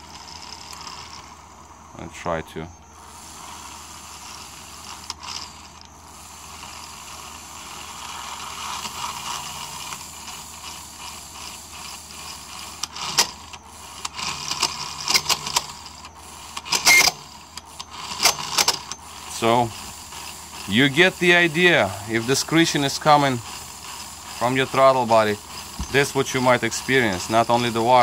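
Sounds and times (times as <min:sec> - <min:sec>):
actuator motor grating: 0:00.0 - 0:28.0.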